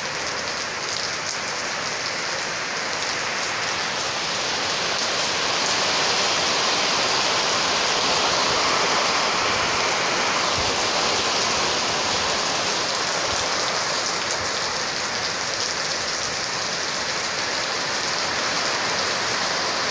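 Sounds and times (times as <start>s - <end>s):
heavy rain pouring: 0.0s - 19.9s.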